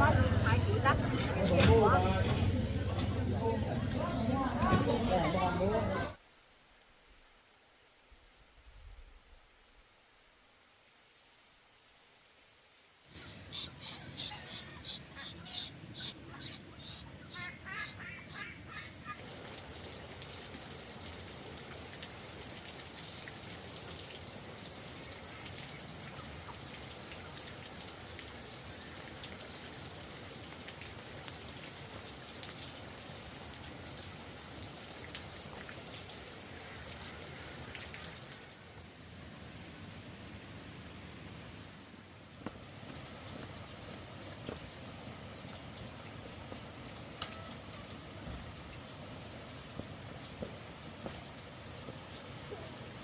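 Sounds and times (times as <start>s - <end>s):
rain falling: 0.0s - 39.0s, 42.0s - 53.0s.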